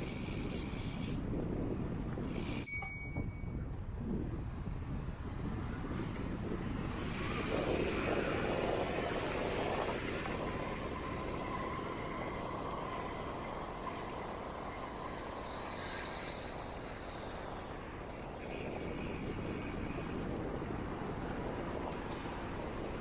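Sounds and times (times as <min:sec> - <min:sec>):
bicycle tyre noise: 0:00.0 - 0:02.8, 0:03.8 - 0:23.0
wind rushing: 0:00.2 - 0:23.0.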